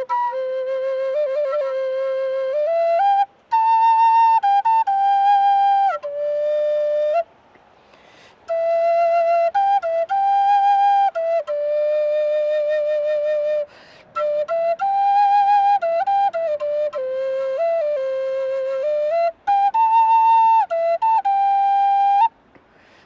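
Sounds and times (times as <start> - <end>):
slow solo flute melody: 0.0 - 22.6.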